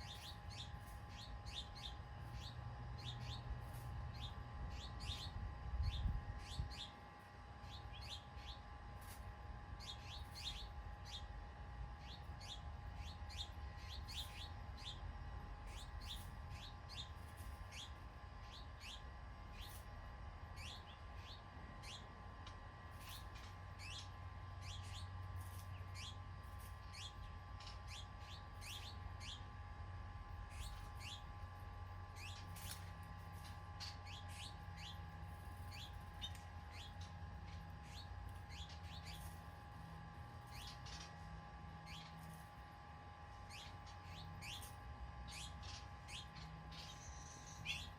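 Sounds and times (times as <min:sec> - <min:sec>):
faint steady hum: 0:00.0 - 0:47.9
low steady rumble: 0:00.0 - 0:47.9
small birds chirping: 0:00.0 - 0:47.9.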